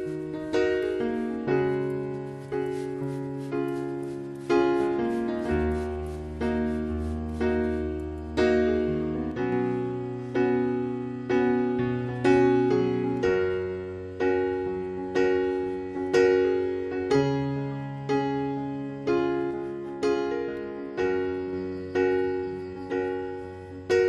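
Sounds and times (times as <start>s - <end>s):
soft piano chords: 0.0s - 24.0s.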